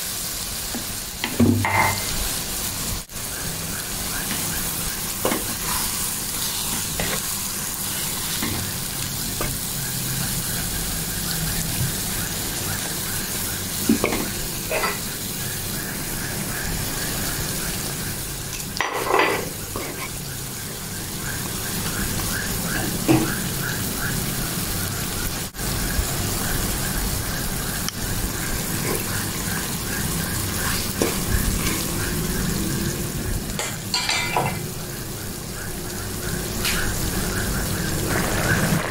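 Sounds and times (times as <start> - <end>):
simmering food sizzling in wok: 0.0 - 38.9.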